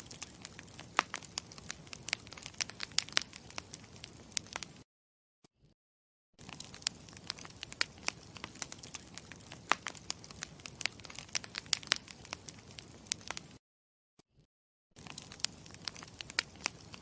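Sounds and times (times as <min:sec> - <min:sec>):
campfire crackling and popping: 0:00.0 - 0:04.8, 0:06.4 - 0:13.6, 0:15.0 - 0:17.0.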